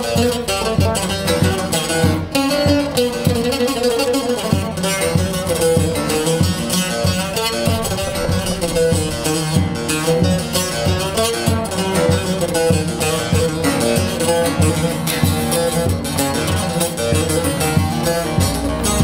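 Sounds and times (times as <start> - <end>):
lute strumming and plucked melody: 0.0 - 19.0.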